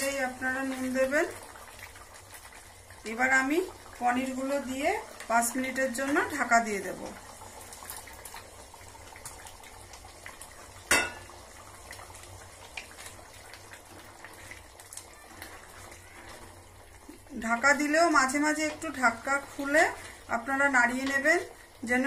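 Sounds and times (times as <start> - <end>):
gravy simmering and bubbling: 0.0 - 22.0.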